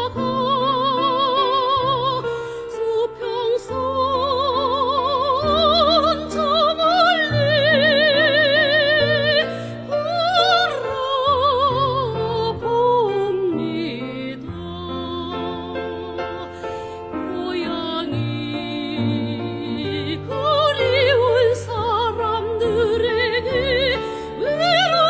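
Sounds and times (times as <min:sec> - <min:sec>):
soprano singing operatic song: 0:00.0 - 0:25.0.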